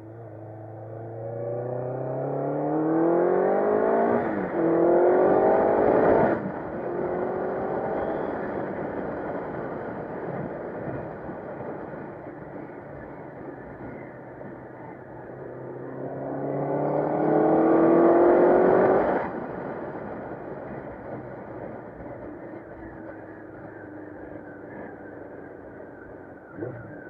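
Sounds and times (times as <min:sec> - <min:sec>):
motorcycle engine accelerating: 0:00.0 - 0:11.1, 0:13.6 - 0:27.0
wind and road noise: 0:00.0 - 0:27.0.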